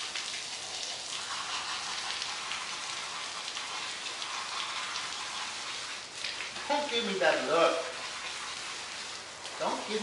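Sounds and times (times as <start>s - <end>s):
garden hose spraying water: 0.0s - 10.0s.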